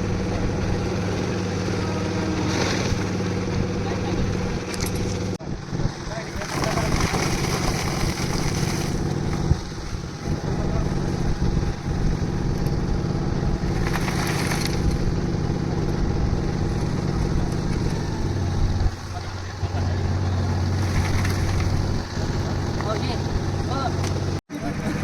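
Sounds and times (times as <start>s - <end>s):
concrete mixer engine running: 0.0s - 25.0s.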